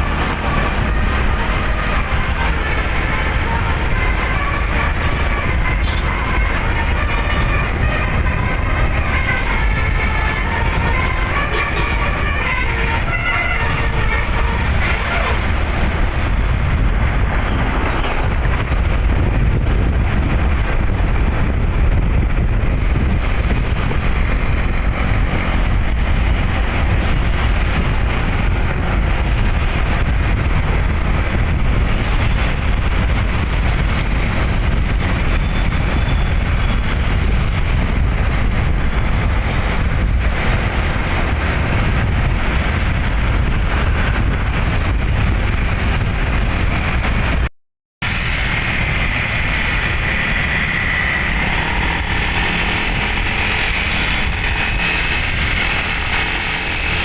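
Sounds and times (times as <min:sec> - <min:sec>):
vehicle and road rumble: 0:00.0 - 0:57.0
wind buffeting microphone: 0:00.0 - 0:57.0.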